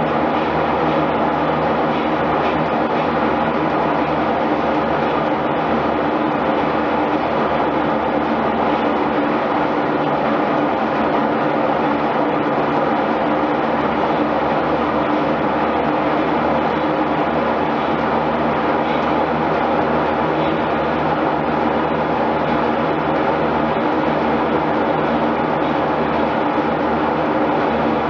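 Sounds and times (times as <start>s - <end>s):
line shafting and pulleys running: 0.0s - 28.0s.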